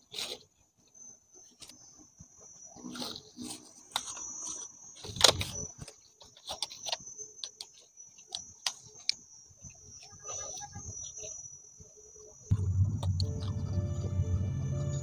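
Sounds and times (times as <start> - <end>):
high-pitched insect trill: 0.6 - 15.0.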